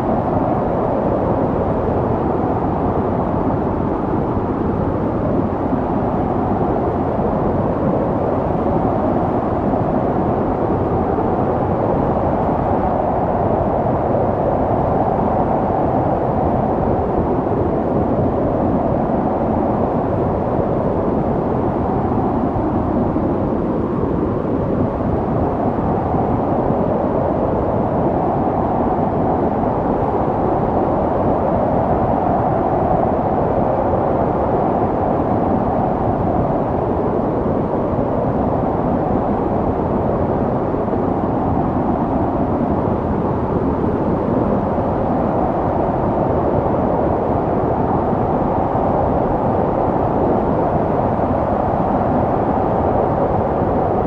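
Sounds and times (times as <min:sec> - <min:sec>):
snowstorm wind blowing: 0:00.0 - 0:54.0.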